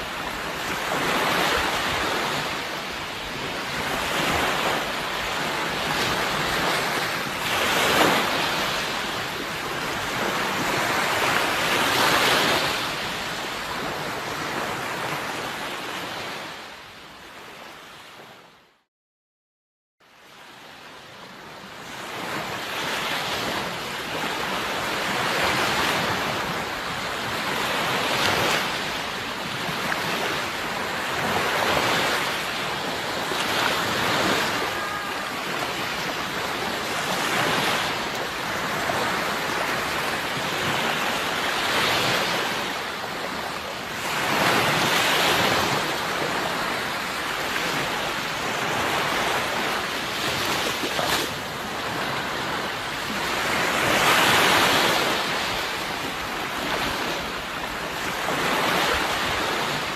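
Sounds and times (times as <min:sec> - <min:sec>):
sea waves breaking ashore: 0:00.0 - 0:18.6, 0:20.0 - 0:59.9.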